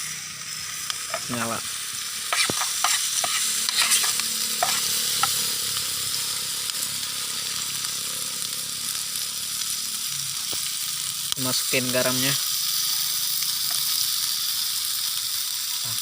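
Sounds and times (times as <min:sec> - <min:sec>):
chillies sizzling in a pan: 0:00.0 - 0:16.0.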